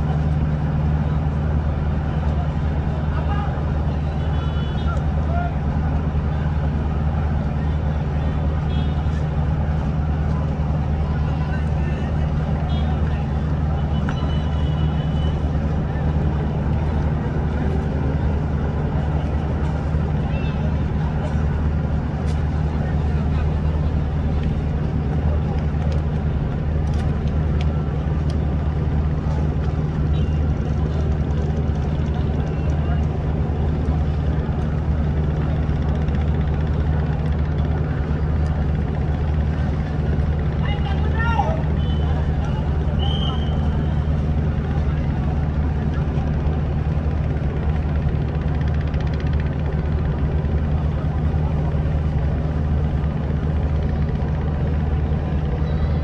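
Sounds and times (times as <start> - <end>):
ship diesel engines droning: 0.0 - 56.0.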